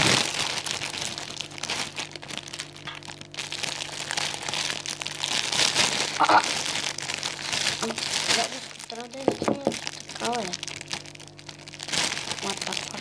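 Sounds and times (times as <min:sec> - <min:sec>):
cellophane crinkling: 0:00.0 - 0:13.0.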